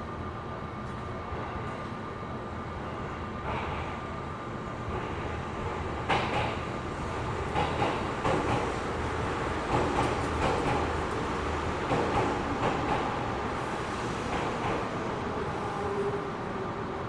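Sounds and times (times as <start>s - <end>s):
train equipment hum: 0.0s - 17.0s.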